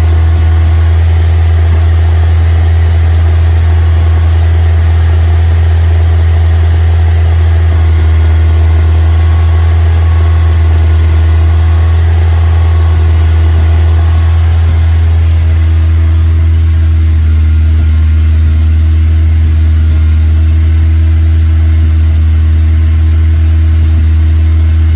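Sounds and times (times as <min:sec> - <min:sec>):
car engine idling with misfire: 0:00.0 - 0:24.9.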